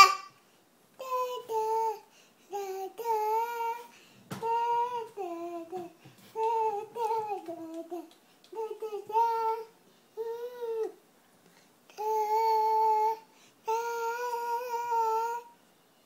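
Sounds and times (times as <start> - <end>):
boy singing wordless tune: 1.0 - 11.0, 11.9 - 15.6.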